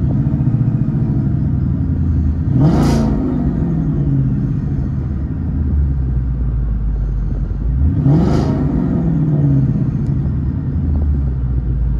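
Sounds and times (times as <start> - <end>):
car engine idling and revving: 0.0 - 11.9.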